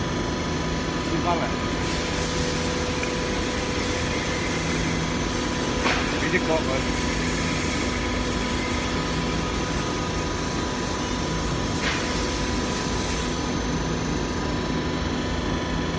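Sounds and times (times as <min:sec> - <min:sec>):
hydraulic power unit humming: 0:00.0 - 0:15.9.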